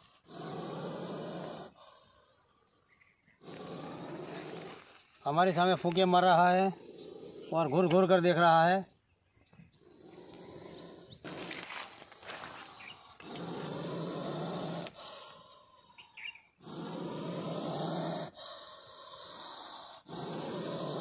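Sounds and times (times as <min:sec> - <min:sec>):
snake hissing: 0:00.0 - 0:05.8, 0:06.4 - 0:07.8, 0:09.8 - 0:21.0.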